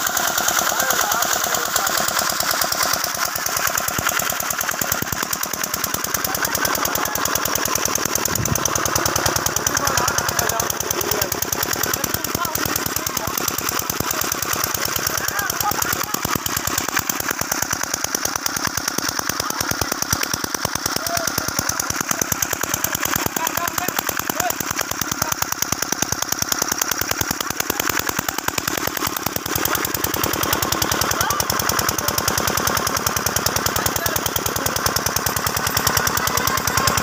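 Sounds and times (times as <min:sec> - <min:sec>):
water pump engine chugging: 0:00.0 - 0:37.0.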